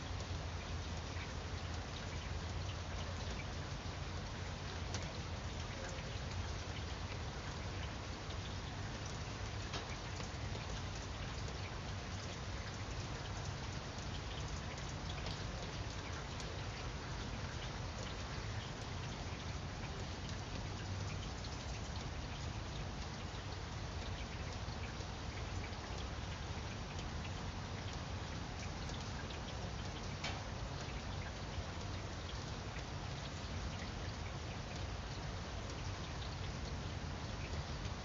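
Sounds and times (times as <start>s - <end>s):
raindrops ticking: 0.0s - 38.0s
steady rain falling: 0.0s - 38.0s.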